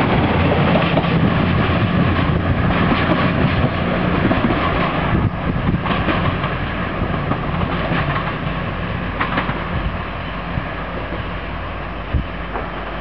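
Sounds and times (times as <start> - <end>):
train diesel engines droning: 0.0 - 13.0.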